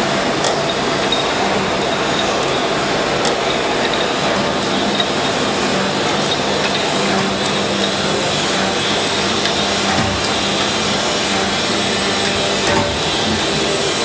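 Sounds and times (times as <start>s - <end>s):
surface grinder running: 1.1s - 14.0s.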